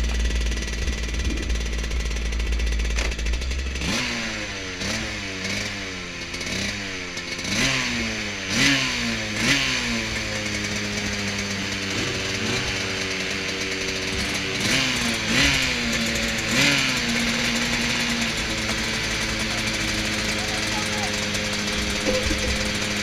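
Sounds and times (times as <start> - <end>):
kart engine idling and revving: 0.0 - 23.0.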